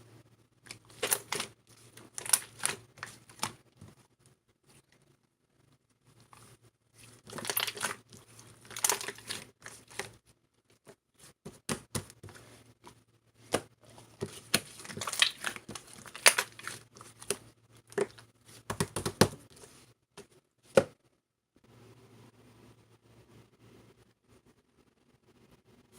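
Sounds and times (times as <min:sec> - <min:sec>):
faint low hum: 0:00.0 - 0:25.9.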